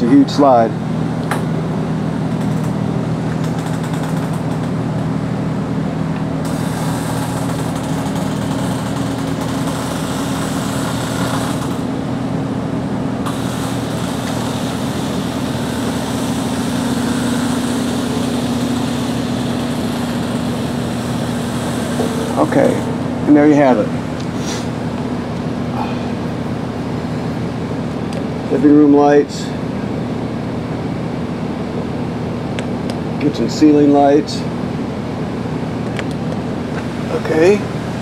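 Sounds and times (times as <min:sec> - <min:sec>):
hydraulic system humming: 0:00.0 - 0:31.0.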